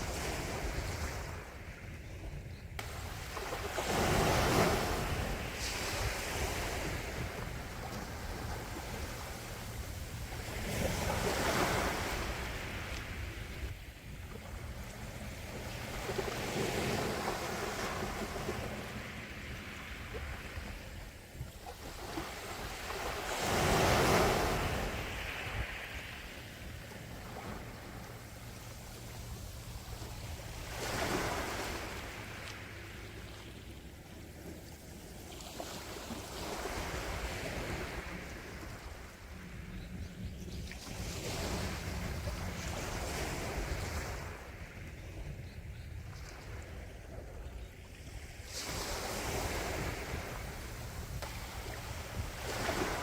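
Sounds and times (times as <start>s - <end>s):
sea waves washing in: 0.0s - 2.0s, 2.8s - 39.8s, 40.7s - 45.0s, 48.1s - 53.0s.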